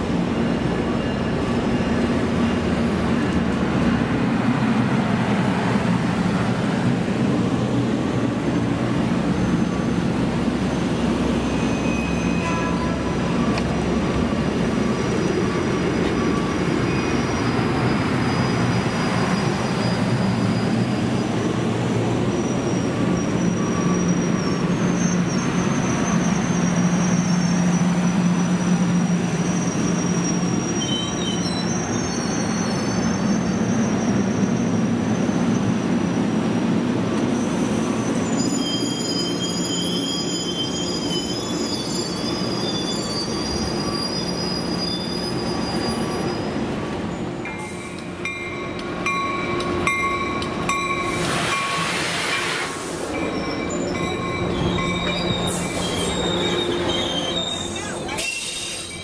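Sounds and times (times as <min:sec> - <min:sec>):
train wheels squealing on rails: 0:00.0 - 0:06.9, 0:07.8 - 0:59.0
train cars rumbling: 0:00.0 - 0:59.0.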